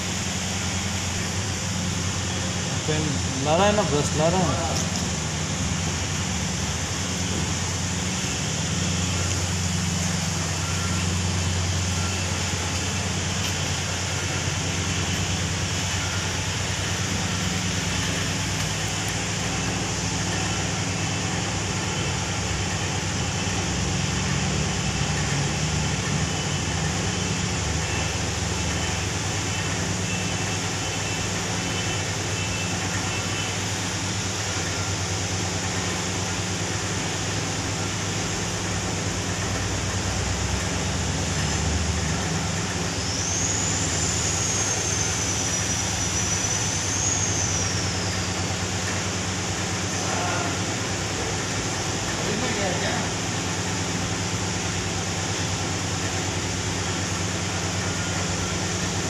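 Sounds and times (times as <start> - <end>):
machinery drone with hiss: 0.0 - 59.0.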